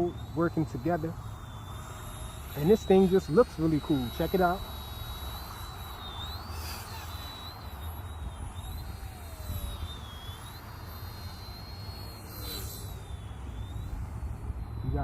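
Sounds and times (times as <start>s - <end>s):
toy helicopter rotors whining: 0.0s - 15.0s.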